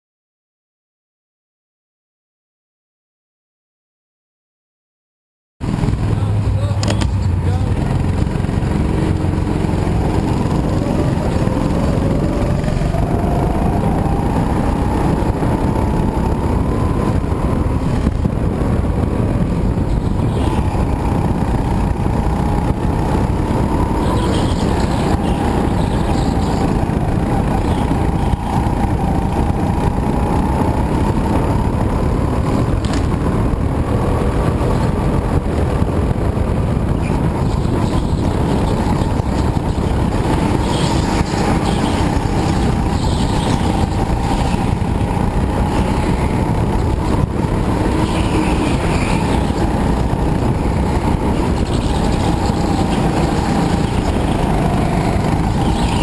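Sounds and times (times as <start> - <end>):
go-kart engine: 5.6 - 56.0.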